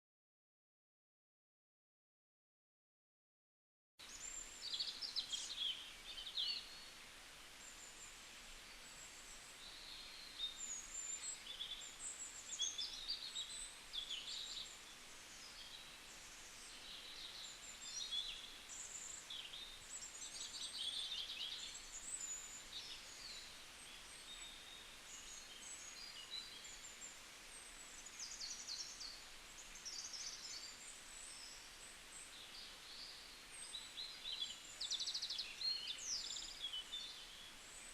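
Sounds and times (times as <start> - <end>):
faint steady hiss: 4.0 - 37.9
small birds chirping: 4.0 - 37.9.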